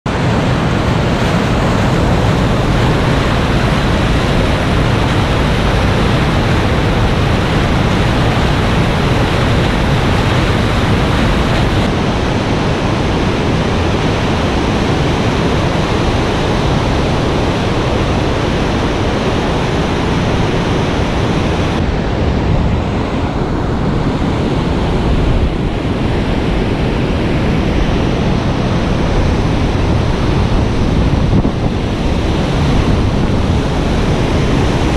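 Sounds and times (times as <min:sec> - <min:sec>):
rapids churning water: 0:00.1 - 0:34.9.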